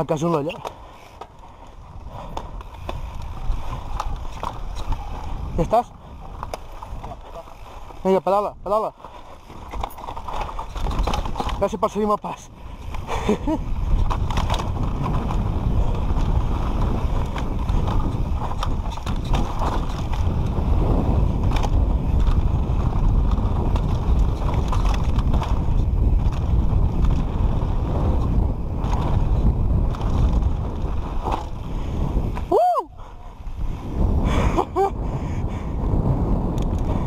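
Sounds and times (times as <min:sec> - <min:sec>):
bike clicking and rattling: 0:00.0 - 0:37.0
bike tyres rumbling over dirt: 0:00.0 - 0:37.0
wind buffeting microphone: 0:00.0 - 0:37.0.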